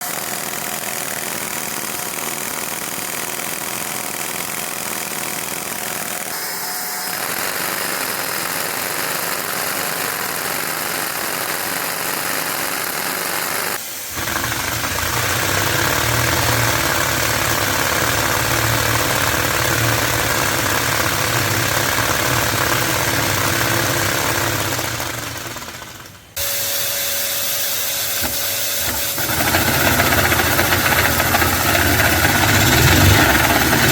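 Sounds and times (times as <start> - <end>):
vacuum cleaner running: 0.0 - 2.8, 5.8 - 33.9
toy engines rattling: 0.0 - 26.5, 27.8 - 33.9.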